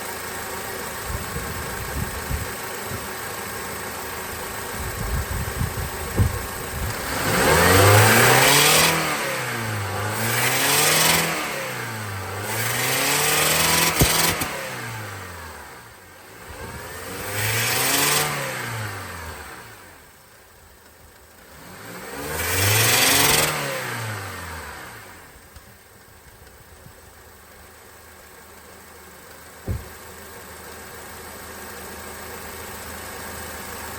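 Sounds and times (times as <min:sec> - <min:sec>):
engine idling and revving: 0:00.0 - 0:33.9.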